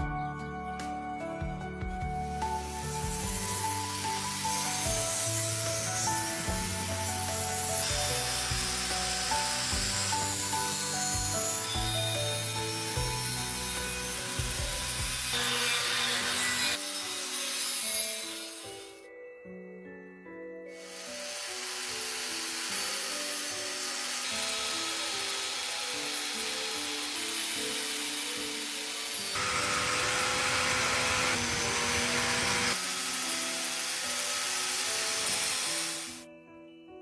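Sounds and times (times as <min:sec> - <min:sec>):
background music: 0:00.0 - 0:37.0
power tool sanding: 0:02.2 - 0:19.0, 0:20.8 - 0:36.3.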